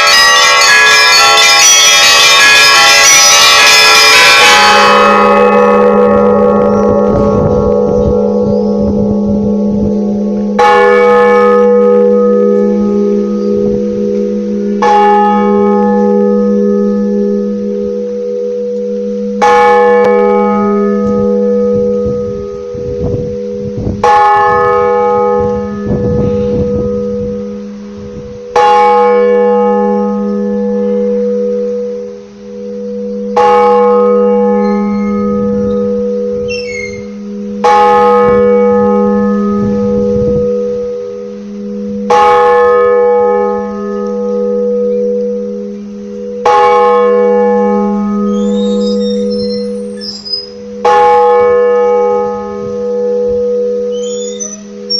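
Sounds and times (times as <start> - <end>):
large church bell ringing: 0.0 - 54.9.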